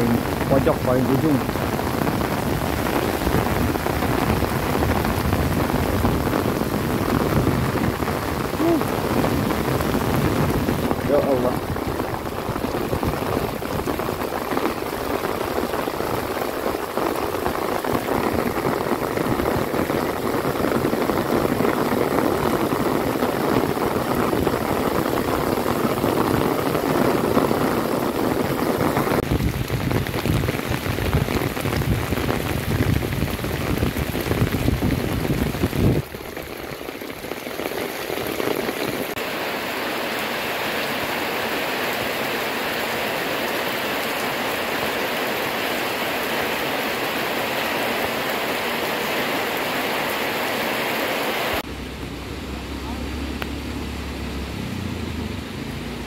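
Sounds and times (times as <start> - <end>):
heavy rain pouring into water: 0.0 - 56.0
rain on grass and tiled roofs: 0.0 - 56.0.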